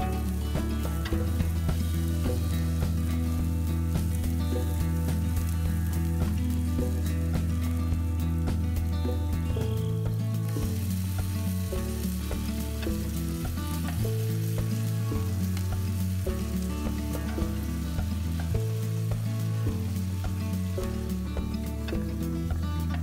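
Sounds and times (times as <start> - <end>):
food sizzling in a wok: 0.0 - 23.0
quiet background music: 0.0 - 23.0.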